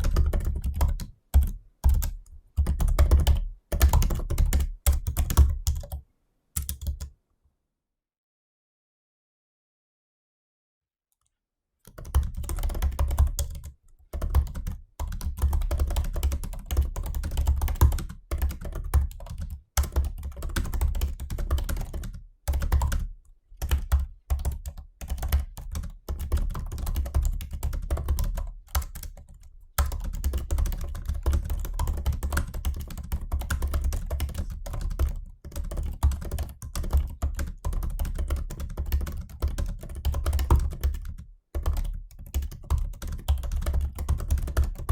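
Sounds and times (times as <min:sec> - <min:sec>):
laptop keyboard typing: 0:00.0 - 0:06.0, 0:06.6 - 0:07.1, 0:11.9 - 0:44.9.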